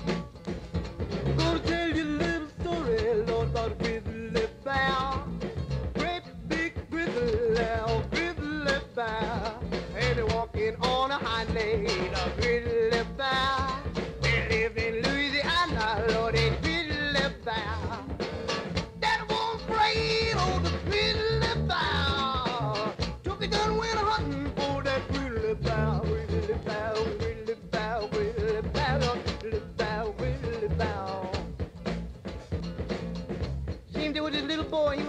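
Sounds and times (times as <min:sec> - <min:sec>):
live band music: 0:00.0 - 0:35.0.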